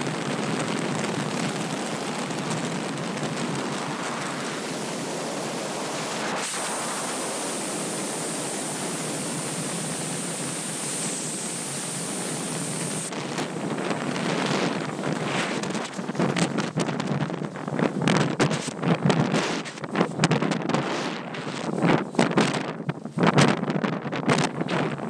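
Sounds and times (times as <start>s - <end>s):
freefall wind rushing: 0.0s - 25.0s.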